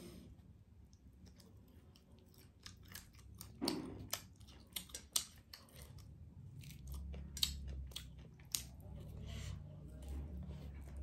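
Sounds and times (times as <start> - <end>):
crunching and chewing fried chicken: 0.7 - 11.0.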